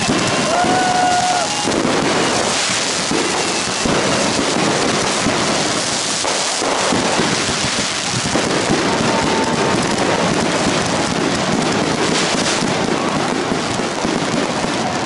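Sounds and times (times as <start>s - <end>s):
firework whistle: 0.0s - 15.0s
fireworks bursting and crackling: 0.0s - 15.0s.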